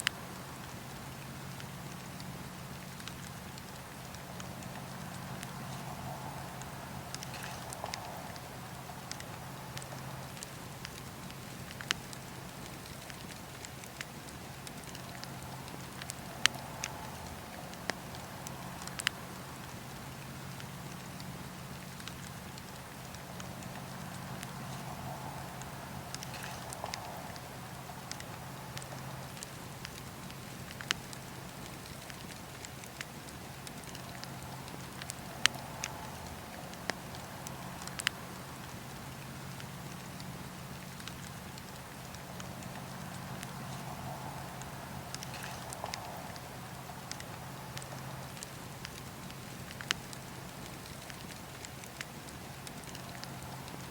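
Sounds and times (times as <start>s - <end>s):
campfire flames rushing: 0.0s - 53.9s
wood crackling and popping: 0.0s - 53.9s.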